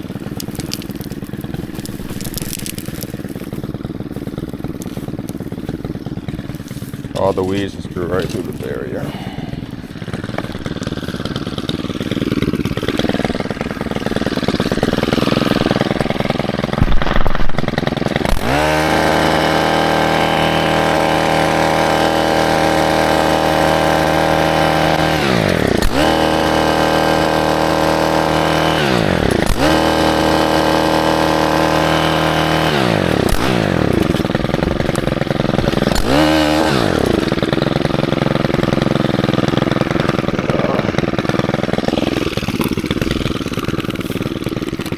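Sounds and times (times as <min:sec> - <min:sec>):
small engine driving a cultivator: 0:00.0 - 0:44.9.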